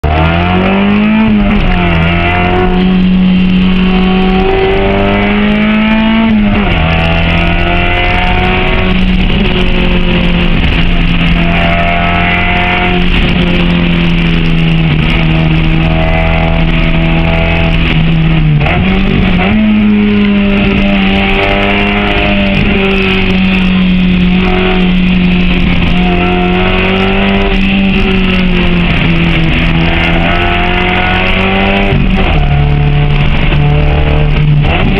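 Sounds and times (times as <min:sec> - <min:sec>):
car engine revving under load: 0:00.0 - 0:34.9.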